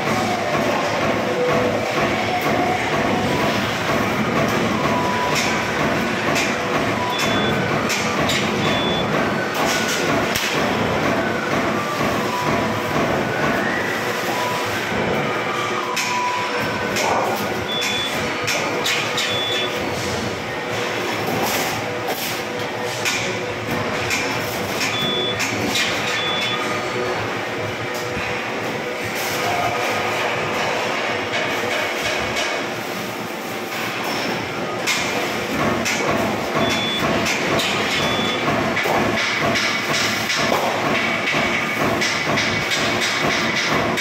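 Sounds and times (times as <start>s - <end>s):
loud machinery drone: 0.0s - 44.0s.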